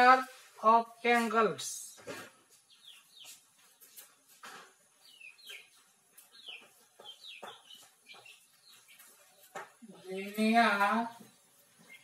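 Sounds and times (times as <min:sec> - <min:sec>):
faint bird chirping: 0:01.0 - 0:12.0.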